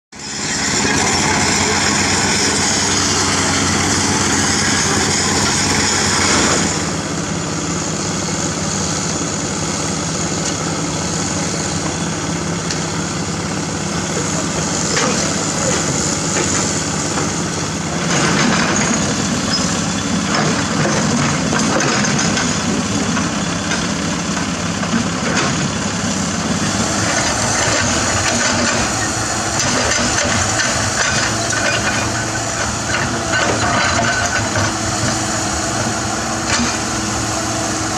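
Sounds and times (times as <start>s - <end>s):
excavator diesel engine running: 0.1s - 37.9s.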